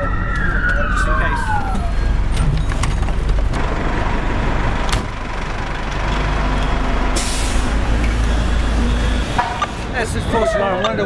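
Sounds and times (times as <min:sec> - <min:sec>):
fire engine rumbling: 0:00.0 - 0:11.0.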